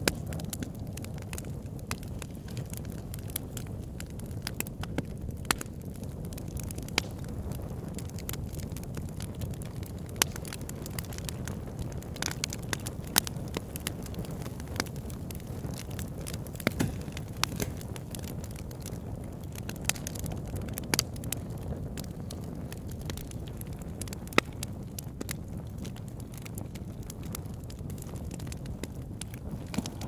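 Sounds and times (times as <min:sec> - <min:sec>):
sharp crackles and pops: 0:00.0 - 0:30.0.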